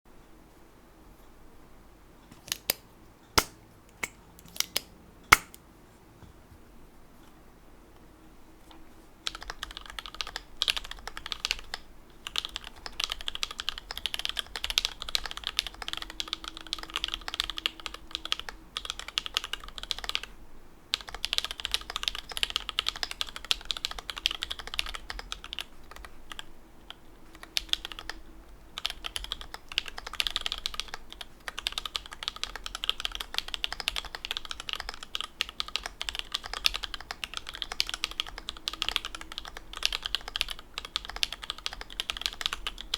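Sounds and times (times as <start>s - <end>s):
mechanical keyboard typing: 2.3s - 2.8s, 3.4s - 5.6s, 9.3s - 20.3s, 20.9s - 28.2s, 28.8s - 42.9s.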